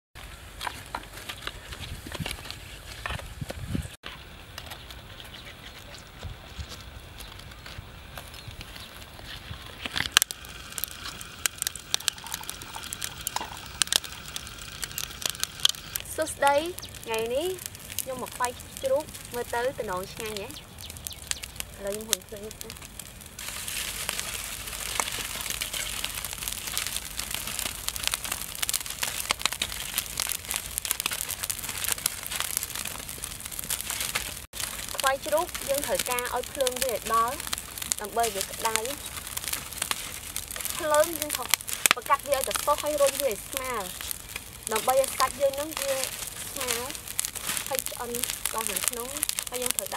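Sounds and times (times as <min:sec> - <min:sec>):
fire crackling and popping: 0:00.2 - 0:49.9.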